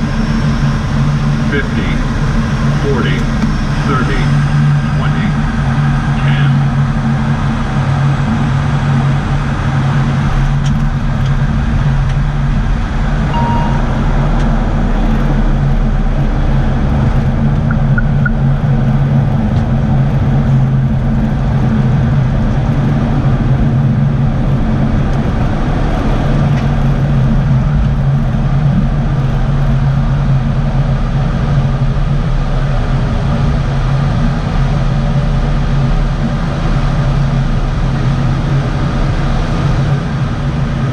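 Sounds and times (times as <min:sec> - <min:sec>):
turboprop engines droning: 0:00.0 - 0:40.9.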